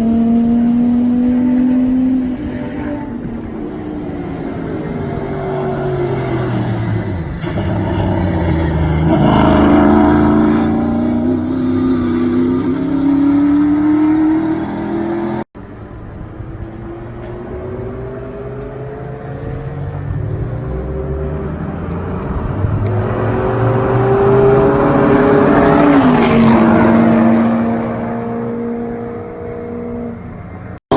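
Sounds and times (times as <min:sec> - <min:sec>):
race car engine accelerating: 0:00.0 - 0:30.4.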